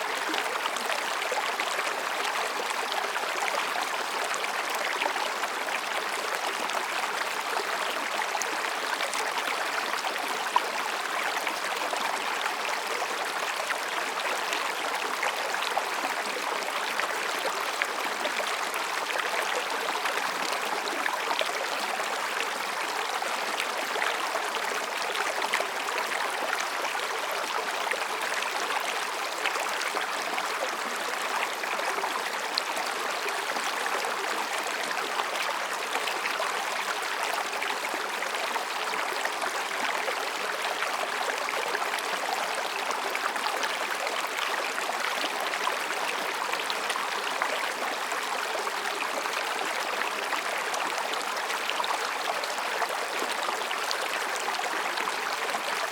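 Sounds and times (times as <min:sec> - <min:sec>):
stream babbling over rocks: 0:00.0 - 0:55.9.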